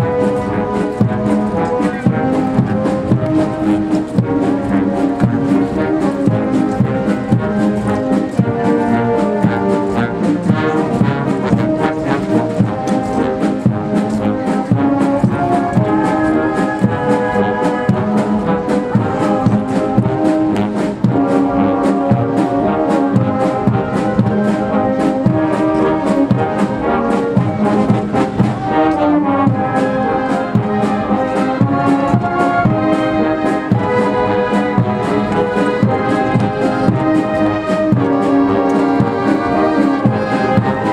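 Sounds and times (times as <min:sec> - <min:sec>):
brass band playing a march: 0:00.0 - 0:40.9
steady drum beat: 0:00.0 - 0:40.9.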